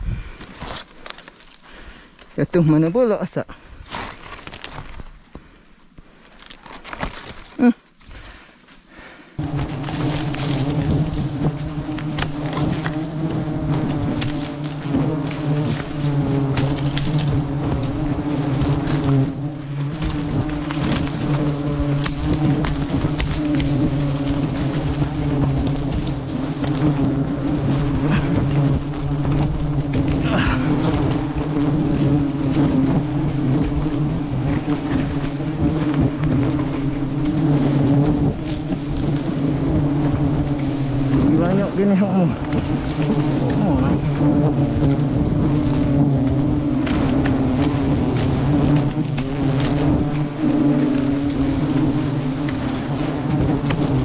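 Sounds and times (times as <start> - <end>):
bee swarm buzzing: 0.0 - 54.0.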